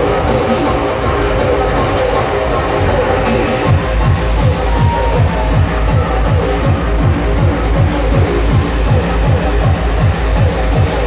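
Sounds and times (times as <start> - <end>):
hardcore techno music: 0.0 - 11.0.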